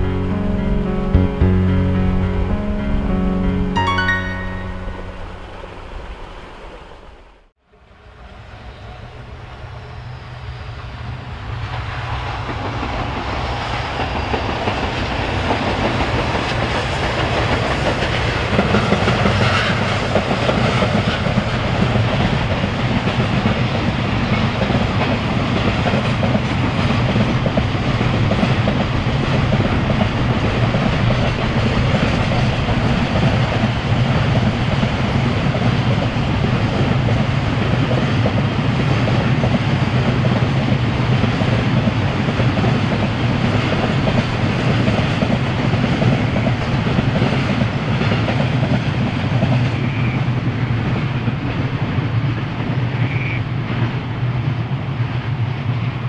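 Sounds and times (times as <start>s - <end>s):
freight train rolling on rails: 8.0s - 56.0s.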